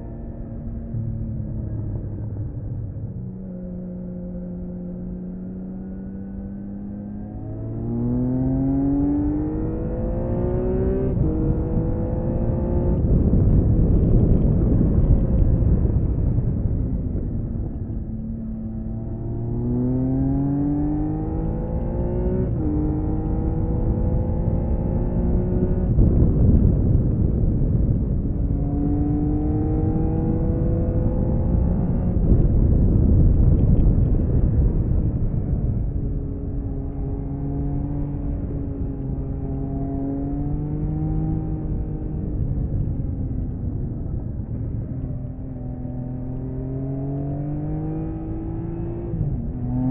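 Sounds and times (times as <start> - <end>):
wind rush: 6.3 - 49.9.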